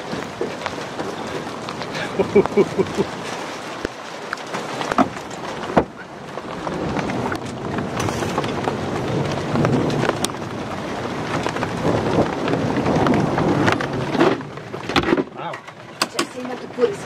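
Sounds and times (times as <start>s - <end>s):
heavy rain falling: 0.0s - 17.0s
thunder rumbling: 0.0s - 17.0s.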